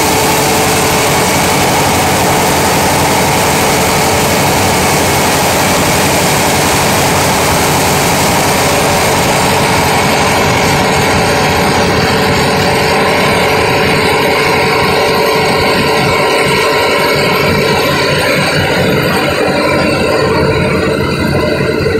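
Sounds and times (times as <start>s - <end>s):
ferry engine running: 0.0s - 21.9s
rushing noise: 0.0s - 21.9s.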